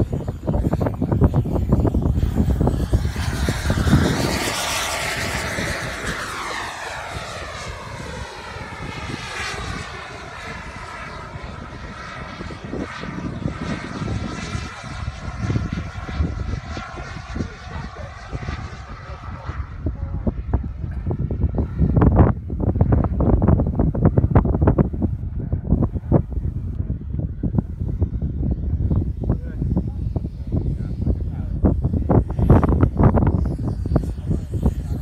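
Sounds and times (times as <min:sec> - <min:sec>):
jet aircraft flying past: 0:00.0 - 0:35.0.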